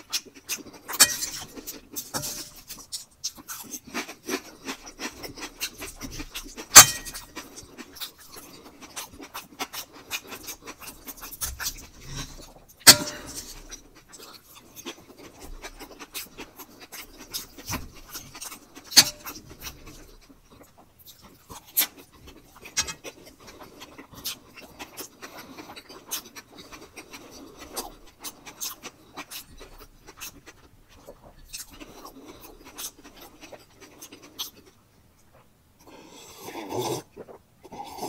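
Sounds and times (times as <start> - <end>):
chewing and mouth sounds: 0.0 - 38.0.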